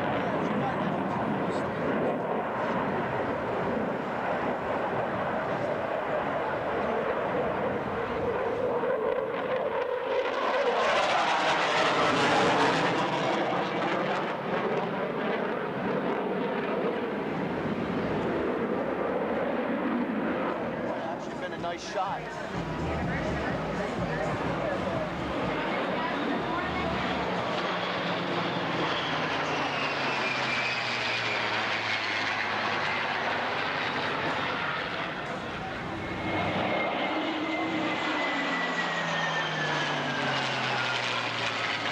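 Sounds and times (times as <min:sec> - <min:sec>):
airplane engine overhead: 0:00.0 - 0:41.9
jet aircraft passing: 0:00.0 - 0:41.9.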